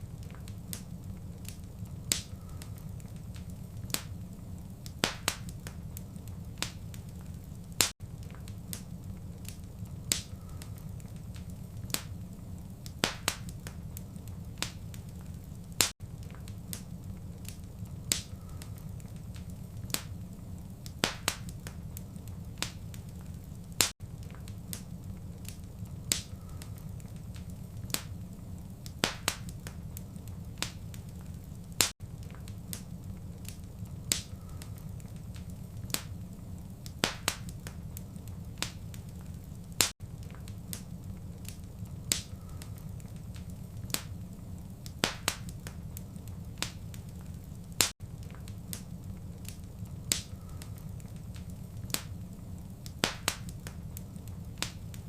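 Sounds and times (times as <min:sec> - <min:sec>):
low rumble of flames: 0:00.0 - 0:55.0
wood fire crackling: 0:00.0 - 0:55.0
sharp pops and snaps: 0:00.1 - 0:55.0.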